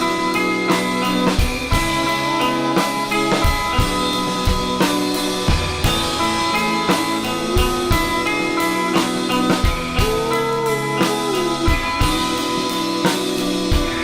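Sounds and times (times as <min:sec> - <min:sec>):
drum kit beat: 0:00.0 - 0:14.0
electric guitar notes: 0:00.0 - 0:14.0.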